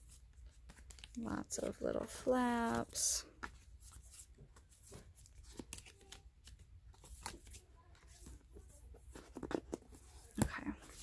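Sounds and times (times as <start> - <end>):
cardboard book pages turning: 0.1 - 11.0.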